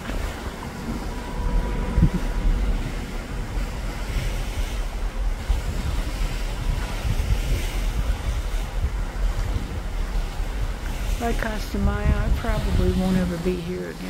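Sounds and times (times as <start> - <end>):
sea rushing: 0.0 - 14.0
wind buffeting microphone: 0.0 - 14.0.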